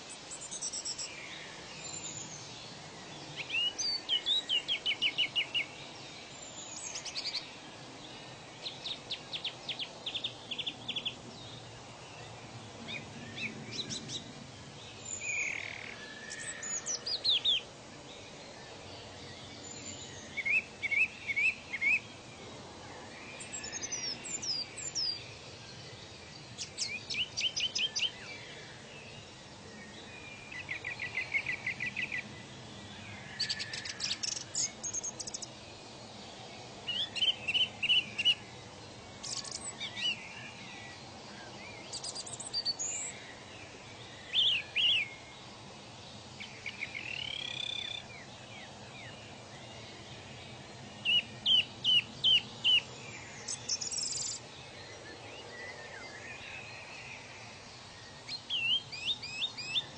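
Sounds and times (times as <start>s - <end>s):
birds singing: 0.0s - 59.9s
steady background hiss: 0.0s - 59.9s.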